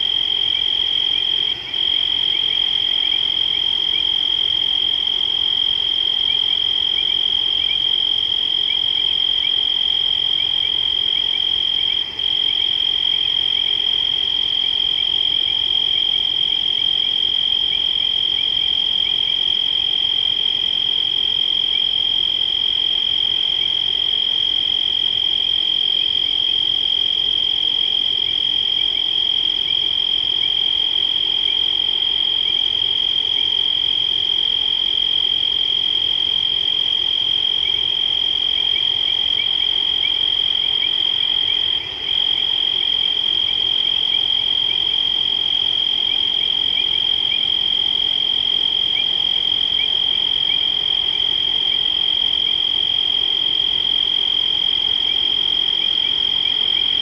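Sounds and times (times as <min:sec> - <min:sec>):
high-pitched insect trill: 0:00.0 - 0:57.0.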